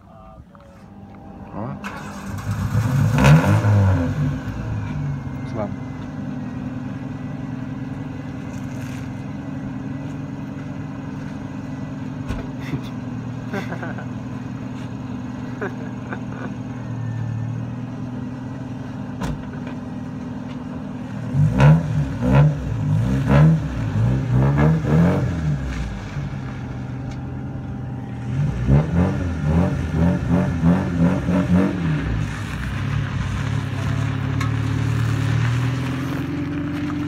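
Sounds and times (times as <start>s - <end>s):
car engine idling: 0.0s - 37.0s
car engine revving: 0.9s - 37.0s.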